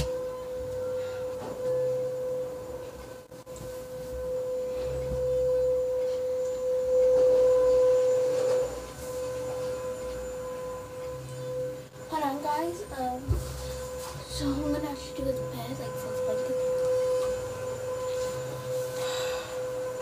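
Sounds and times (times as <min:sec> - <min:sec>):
steady mid-pitched tone: 0:00.0 - 0:20.0.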